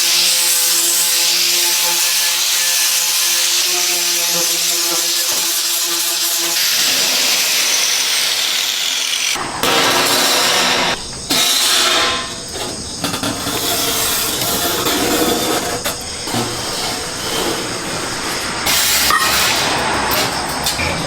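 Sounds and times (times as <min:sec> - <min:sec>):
rough hissing: 0:00.0 - 0:20.7.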